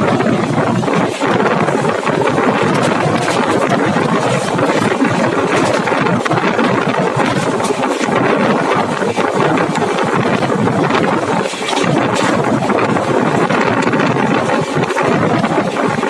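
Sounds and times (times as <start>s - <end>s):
train rumbling and rattling: 0.0s - 16.0s.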